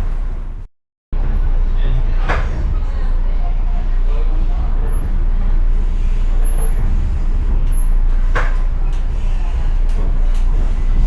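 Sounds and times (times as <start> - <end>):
train rumble from inside car: 0.0 - 11.0.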